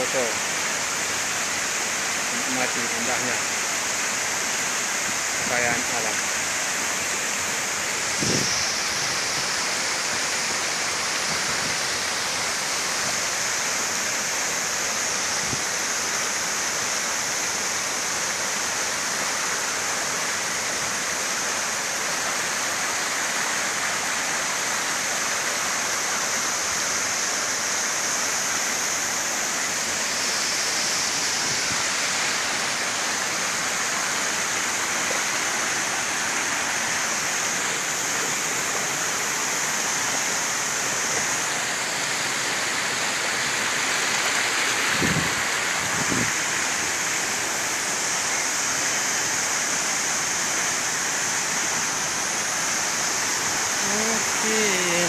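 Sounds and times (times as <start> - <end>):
stream running over stones: 0.0 - 55.0
waterfall rushing: 0.0 - 55.0.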